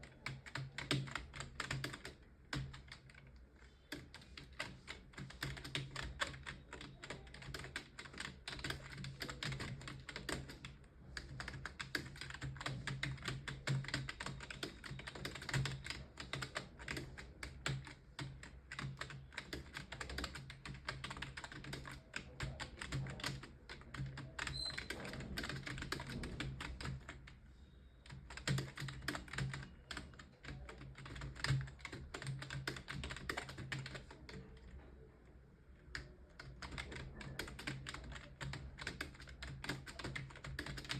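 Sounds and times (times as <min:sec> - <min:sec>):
keyboard typing: 0:00.0 - 0:27.4, 0:28.0 - 0:35.1, 0:35.8 - 0:40.9.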